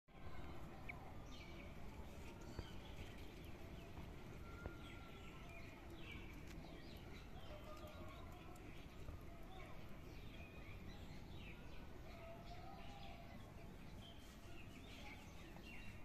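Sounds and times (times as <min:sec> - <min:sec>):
outdoor background noise: 0:00.1 - 0:16.0
small birds chirping: 0:00.2 - 0:16.0.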